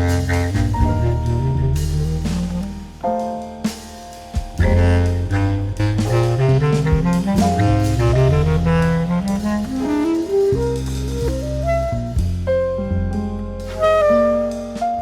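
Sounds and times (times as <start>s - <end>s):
bass line: 0.0s - 15.0s
drums: 0.0s - 15.0s
piano: 0.0s - 15.0s
reed instrument lead: 0.0s - 15.0s.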